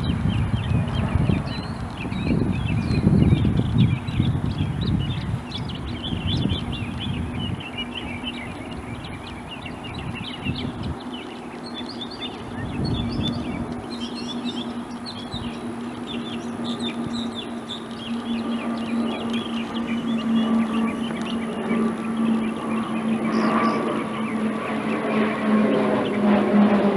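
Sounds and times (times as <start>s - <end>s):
low hum: 0.0s - 26.9s
small birds chirping: 0.0s - 26.9s.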